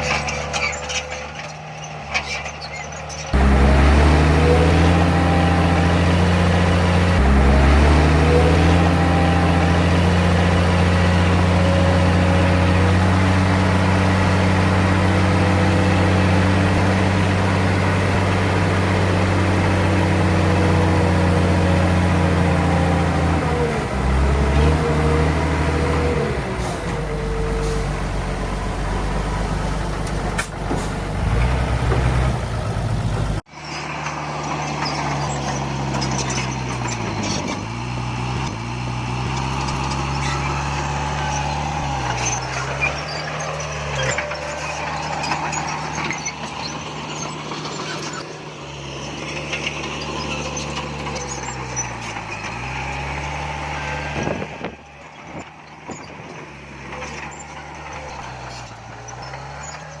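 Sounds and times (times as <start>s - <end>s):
heavy diesel machinery rumbling: 0.0s - 60.0s.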